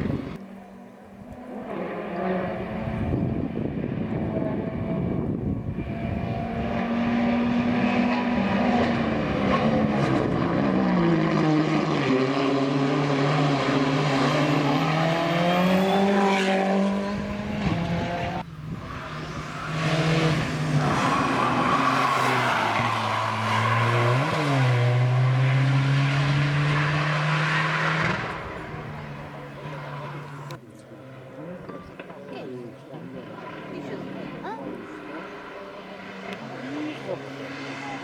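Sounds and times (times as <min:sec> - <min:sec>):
race car engine at high revs: 0:00.0 - 0:38.0.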